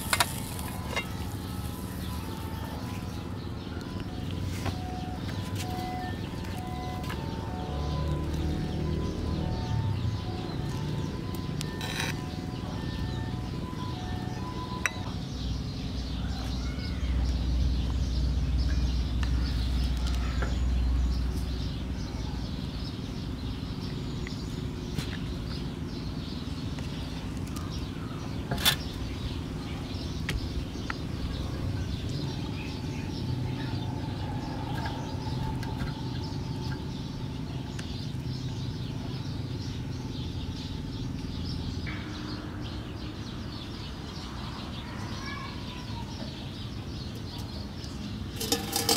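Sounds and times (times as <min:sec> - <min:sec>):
birds calling: 0:00.0 - 0:48.9.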